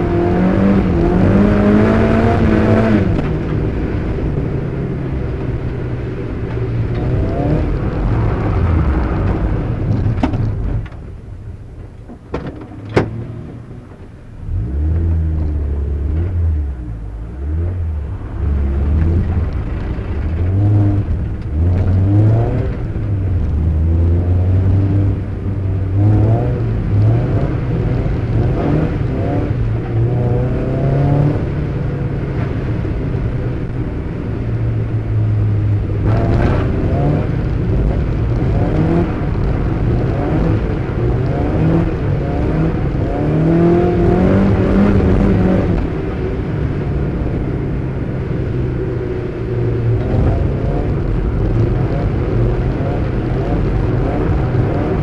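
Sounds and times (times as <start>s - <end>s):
car engine revving hard: 0.0s - 5.3s, 6.8s - 10.2s, 14.4s - 55.0s.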